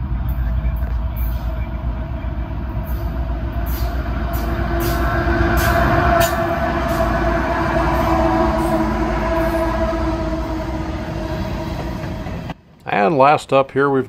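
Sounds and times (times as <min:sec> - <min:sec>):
diesel locomotive engines rumbling: 0:00.0 - 0:14.0.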